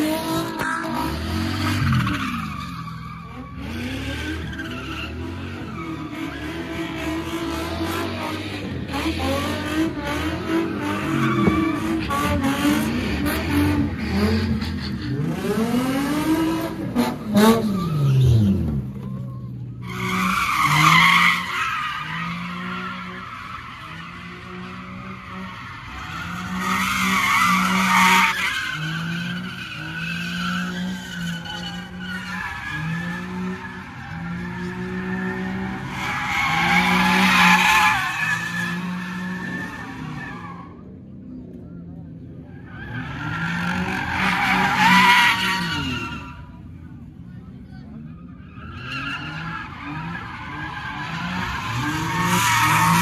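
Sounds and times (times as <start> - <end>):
tires screeching: 0.0 - 53.0.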